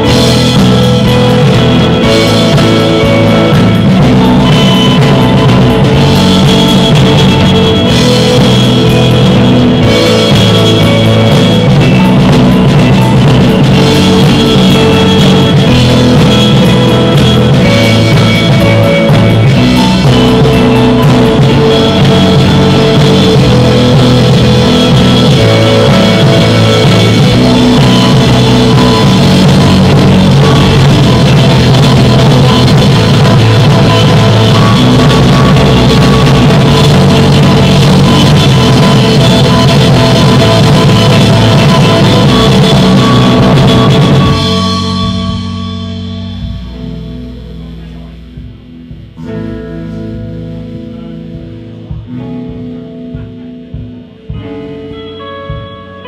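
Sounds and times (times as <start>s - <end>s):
drum kit: 0.0s - 56.0s
rock band playing loudly: 0.0s - 56.0s
sustained guitar notes: 0.0s - 56.0s.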